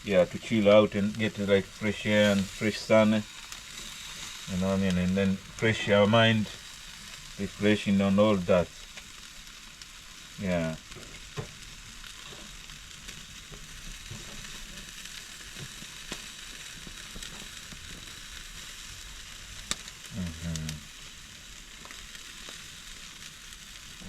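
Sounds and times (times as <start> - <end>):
chicken sizzling on a grill: 0.0 - 24.0.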